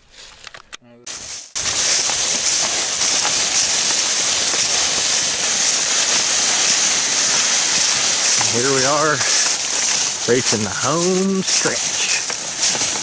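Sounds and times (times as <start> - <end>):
boots tramping through leaves: 1.1 - 13.0
carcass dragged over leaves: 1.1 - 13.0
dry leaves rustling and crunching: 1.1 - 13.0.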